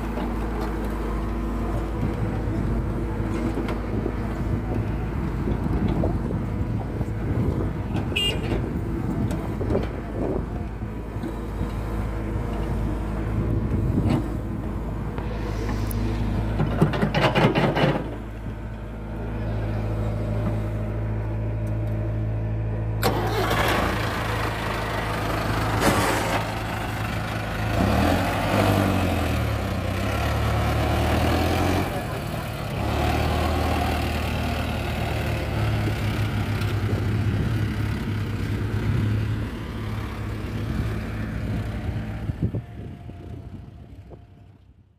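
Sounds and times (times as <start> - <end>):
excavator engine running: 0.0 - 44.7
tractor diesel engine: 0.0 - 44.8.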